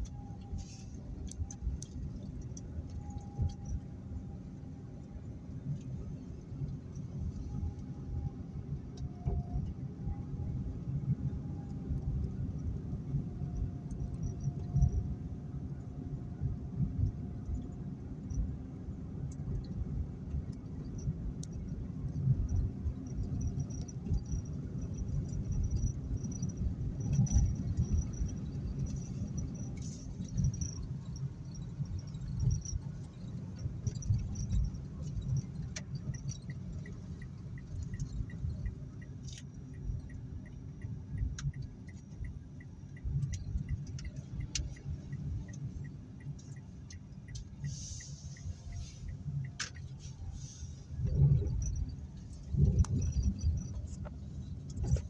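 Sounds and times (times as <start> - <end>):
road rumble inside car: 0.0 - 55.0
turn signal ticking: 0.0 - 55.0.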